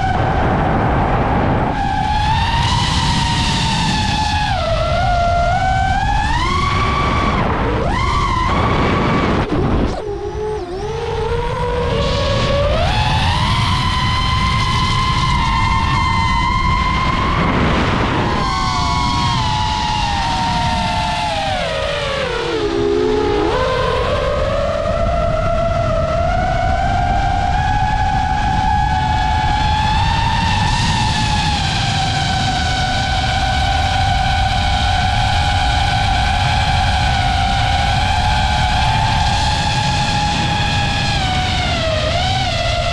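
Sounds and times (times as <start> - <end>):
drone propellers whining: 0.0 - 42.9.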